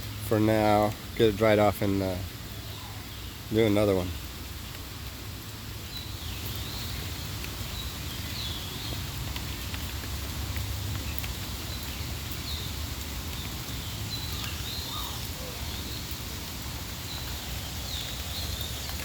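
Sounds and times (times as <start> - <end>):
low rumble and hiss: 0.0 - 19.0
birds chirping: 0.2 - 4.8, 5.7 - 19.0.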